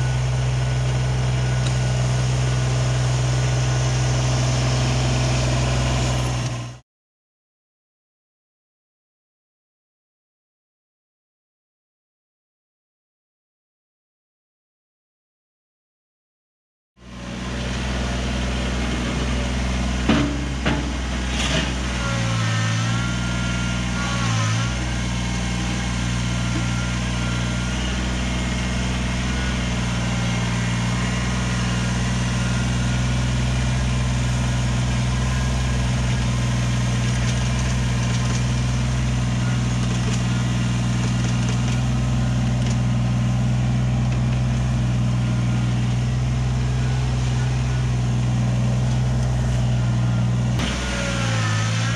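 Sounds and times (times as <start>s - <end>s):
diesel engine running: 0.0s - 6.8s, 17.0s - 51.9s.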